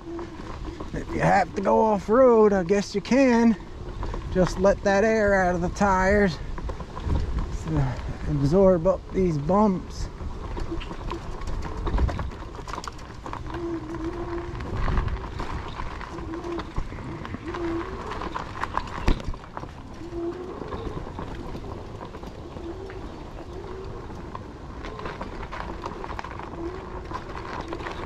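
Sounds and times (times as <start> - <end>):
bike rattling and knocking: 0.0 - 28.0
tyres rumbling on dirt trail: 0.0 - 28.0.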